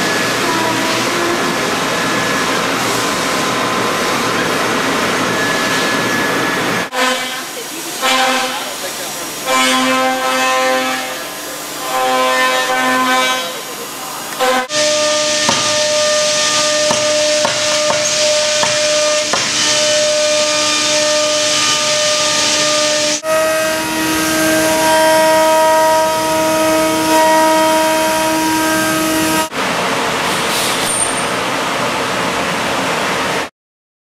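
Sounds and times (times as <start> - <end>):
cnc router spindle whine: 0.0 - 29.5.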